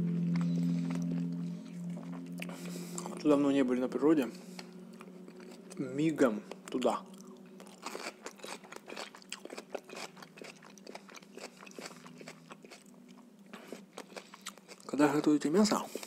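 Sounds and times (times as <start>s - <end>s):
crunching and chewing radish: 0.0s - 3.4s, 4.2s - 16.0s.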